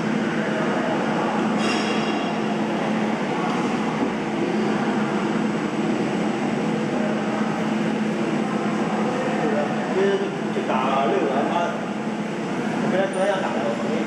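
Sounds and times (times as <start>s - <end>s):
industrial machine humming: 0.0s - 14.0s.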